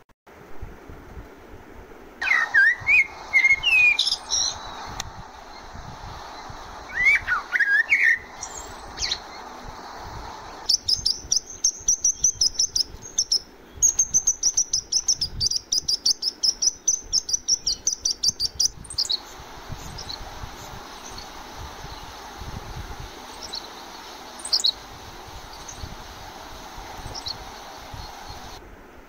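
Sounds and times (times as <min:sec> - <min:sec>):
gliding whistled bird call: 0:02.2 - 0:28.6
sparrows chirping: 0:02.2 - 0:28.6.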